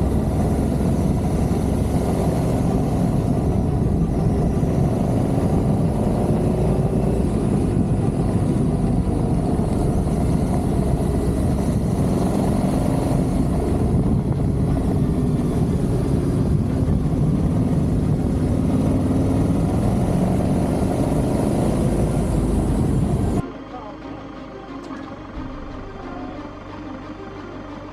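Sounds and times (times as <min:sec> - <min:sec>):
wind noise: 0:00.0 - 0:23.4
motorcycle engine running: 0:00.0 - 0:27.9
road noise: 0:00.0 - 0:27.9.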